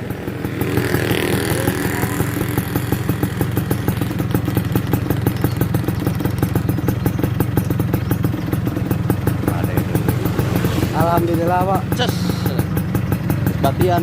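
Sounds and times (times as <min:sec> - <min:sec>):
two-stroke moped engine idling: 0:00.0 - 0:14.0.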